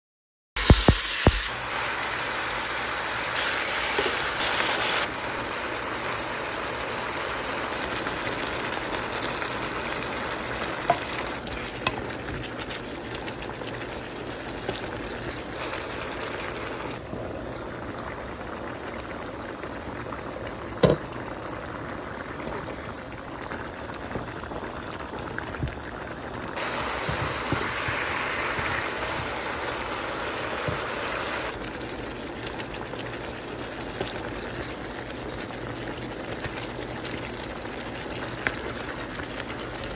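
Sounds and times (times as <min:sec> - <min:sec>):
chicken sizzling and bubbling in pot: 0:00.6 - 0:39.9.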